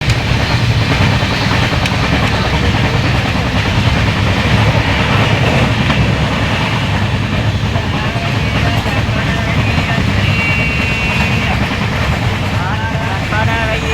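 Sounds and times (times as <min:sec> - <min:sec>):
train wheels rumbling on rails: 0:00.0 - 0:13.9.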